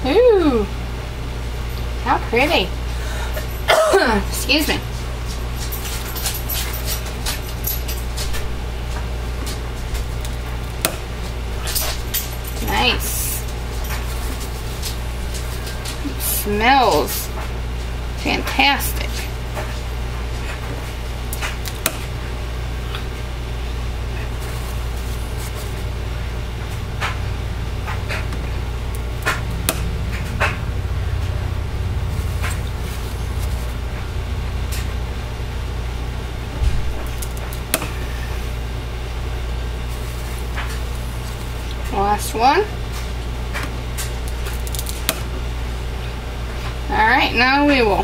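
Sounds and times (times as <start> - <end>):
low hum: 0.0 - 47.9.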